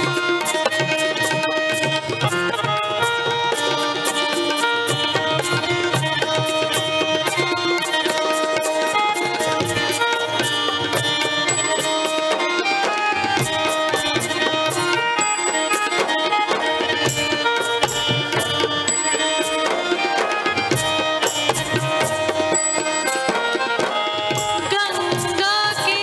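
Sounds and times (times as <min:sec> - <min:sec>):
held melody notes: 0:00.0 - 0:26.0
tabla playing quick rhythm: 0:00.0 - 0:26.0.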